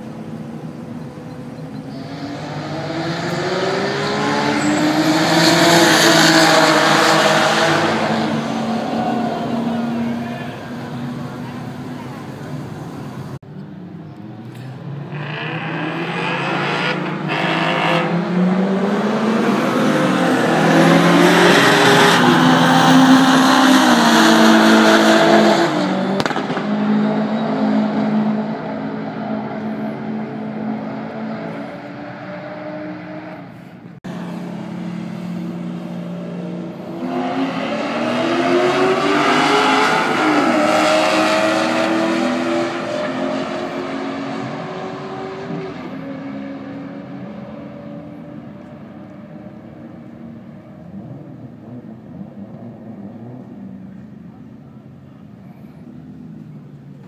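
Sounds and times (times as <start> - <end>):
sports cars accelerating: 0.0 - 57.0.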